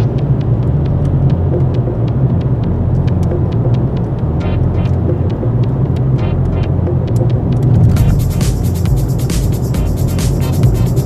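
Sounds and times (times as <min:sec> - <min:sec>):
car engine and road noise rumble: 0:00.0 - 0:11.0.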